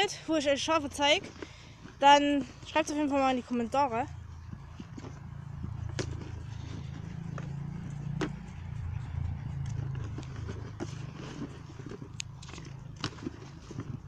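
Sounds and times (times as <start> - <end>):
low steady rumble: 0.2 - 14.0
sheep chewing dry feed: 0.4 - 14.0.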